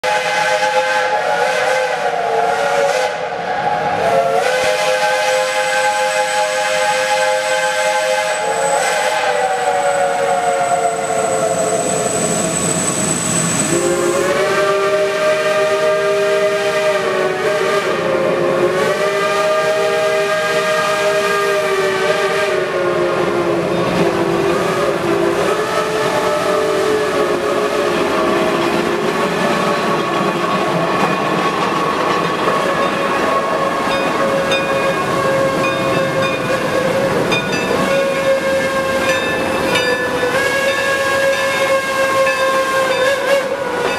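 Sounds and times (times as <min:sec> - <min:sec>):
steam locomotive whistles: 0:00.0 - 0:43.9.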